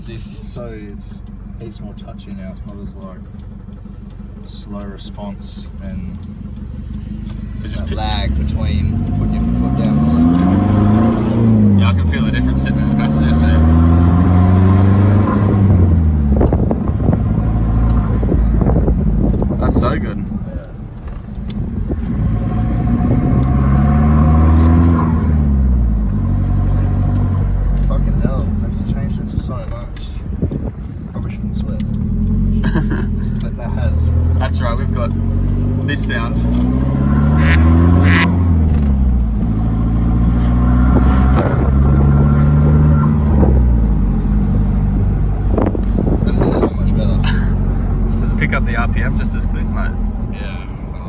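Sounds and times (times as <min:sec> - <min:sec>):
engine revving under acceleration: 0:00.0 - 0:51.0.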